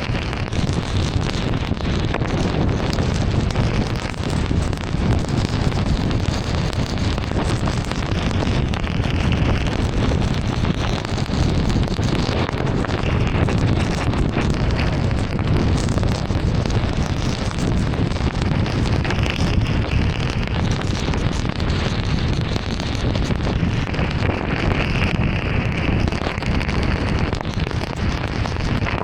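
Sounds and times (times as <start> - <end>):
rain and tyres on wet road: 0.2 - 29.0.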